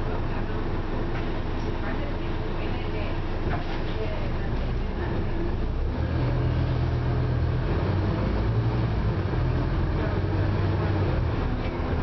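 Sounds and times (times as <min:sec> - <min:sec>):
bus diesel engine droning: 0:00.0 - 0:12.0
cabin and road noise: 0:00.0 - 0:12.0.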